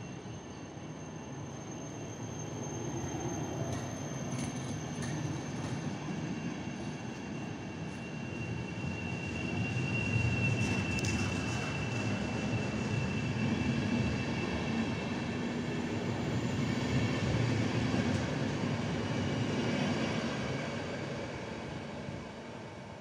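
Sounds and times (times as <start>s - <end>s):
train wheels rumbling on rails: 2.5s - 22.9s.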